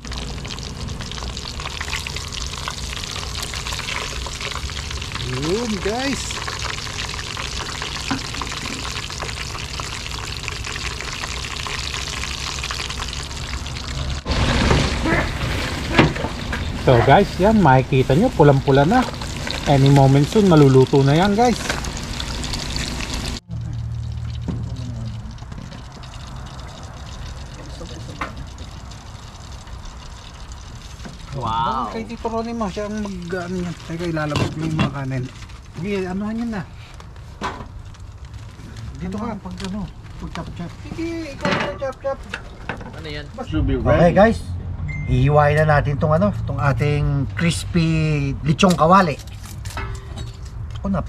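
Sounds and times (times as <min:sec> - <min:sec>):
meat deep-frying in hot oil: 0:00.0 - 0:43.4, 0:46.3 - 0:49.8.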